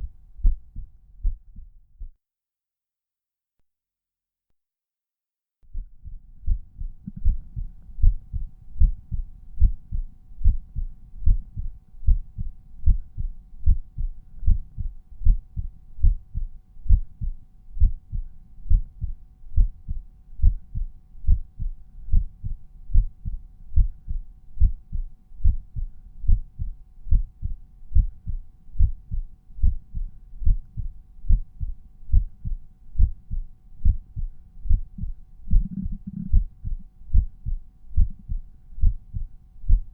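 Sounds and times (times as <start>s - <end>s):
heartbeat: 0.0s - 2.2s, 5.7s - 39.9s.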